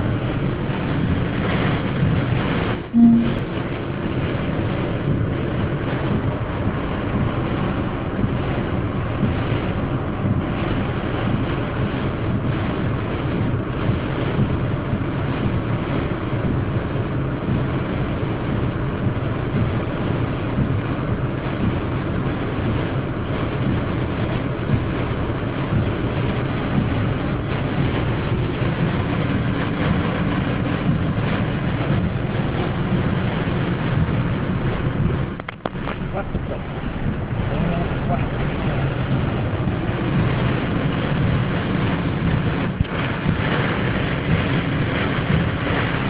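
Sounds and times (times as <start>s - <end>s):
storm wind and rain on car: 0.0s - 46.0s.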